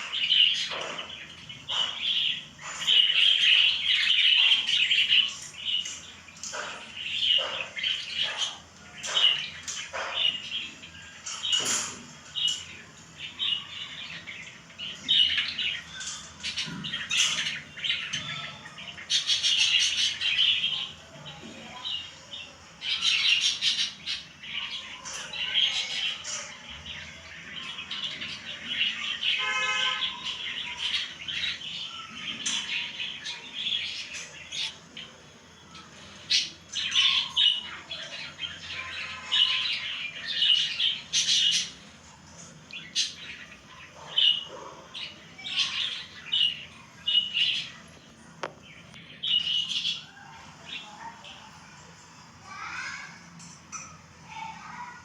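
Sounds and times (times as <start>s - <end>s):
lovebirds chirping and squawking: 0.0s - 55.0s.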